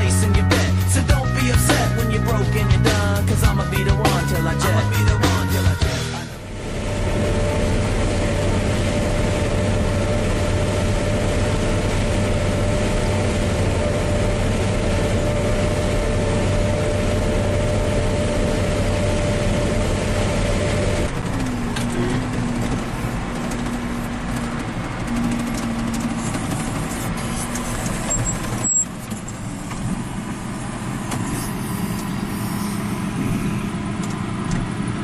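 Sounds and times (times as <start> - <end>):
combine harvester humming and whining: 0.0 - 35.0
tractor engine running: 0.0 - 35.0.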